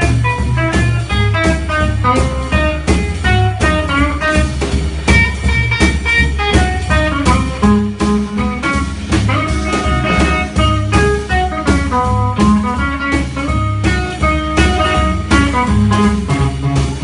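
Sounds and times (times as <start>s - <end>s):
drum kit: 0.0s - 17.0s
electric guitar picking: 0.0s - 17.0s.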